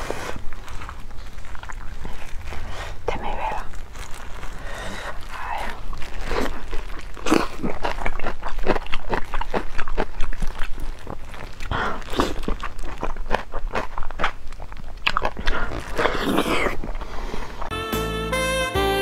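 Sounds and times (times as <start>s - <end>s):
crunchy chewing: 0.0s - 17.7s.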